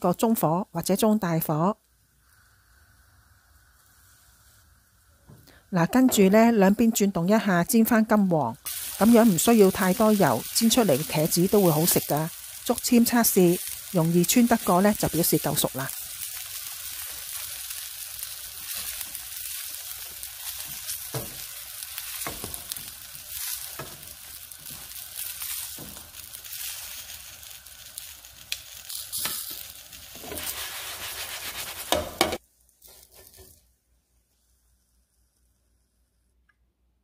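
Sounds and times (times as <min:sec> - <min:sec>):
food sizzling in oil: 0:00.0 - 0:33.7.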